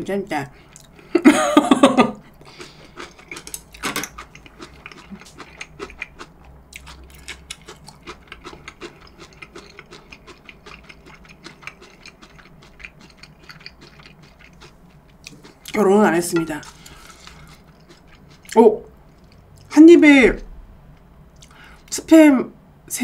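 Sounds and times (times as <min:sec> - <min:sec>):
person chewing food: 0:00.6 - 0:01.0, 0:02.2 - 0:19.7, 0:21.4 - 0:21.9.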